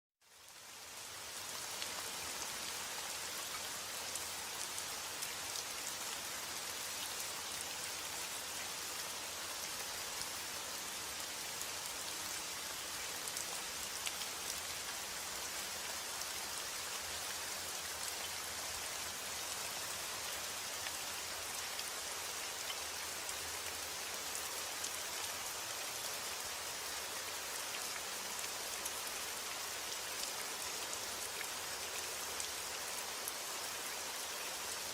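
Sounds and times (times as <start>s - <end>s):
steady rain pattering: 0.2s - 34.9s.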